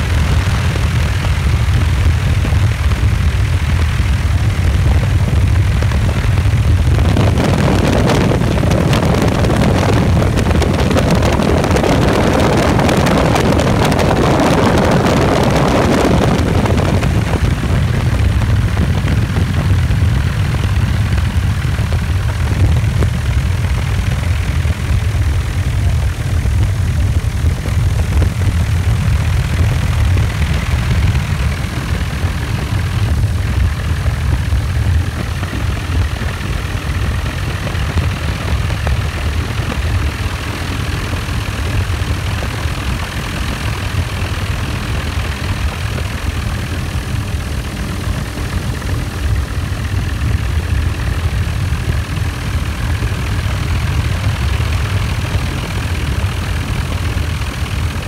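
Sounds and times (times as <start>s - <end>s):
helicopter engine and rotor drone: 0.0s - 58.0s
rush of wind: 0.0s - 58.0s.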